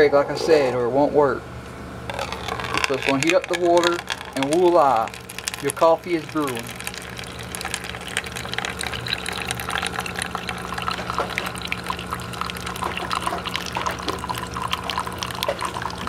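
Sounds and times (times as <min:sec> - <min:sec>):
coffee maker low hum: 0:02.0 - 0:16.0
coffee trickling into a paper cup: 0:02.1 - 0:16.0.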